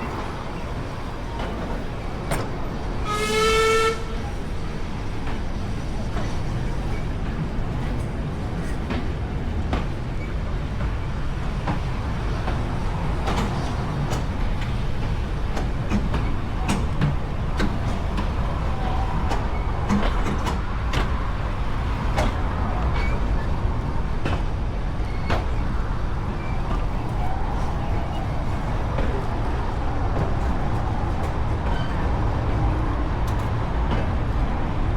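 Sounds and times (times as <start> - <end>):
railway carriage rumble: 0.0 - 34.9.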